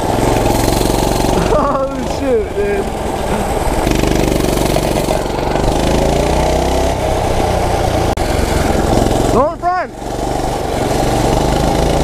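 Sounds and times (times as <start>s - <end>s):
mini bike engine running: 0.0s - 12.0s.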